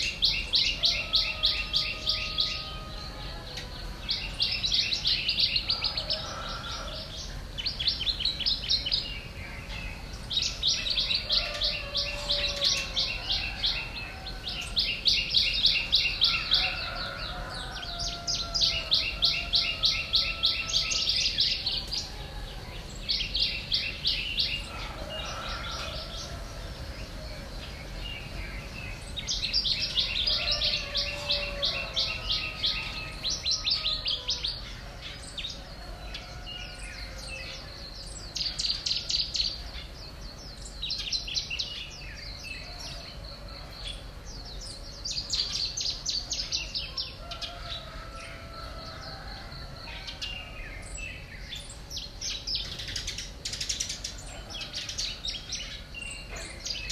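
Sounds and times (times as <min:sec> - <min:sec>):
birds chirping rapidly: 0:00.0 - 0:56.9.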